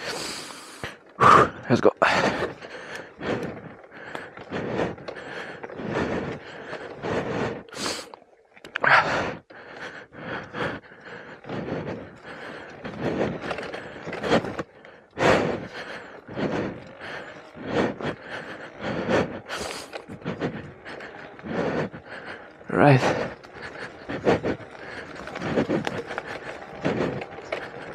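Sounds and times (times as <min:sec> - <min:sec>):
person panting: 0:00.0 - 0:27.9.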